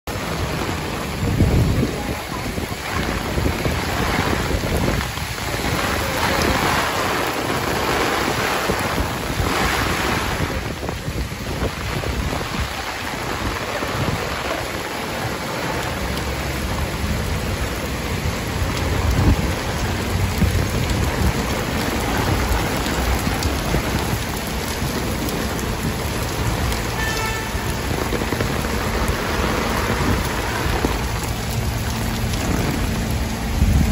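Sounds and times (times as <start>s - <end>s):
heavy rain pouring: 0.0s - 33.9s
wind gusts on microphone: 0.1s - 33.9s.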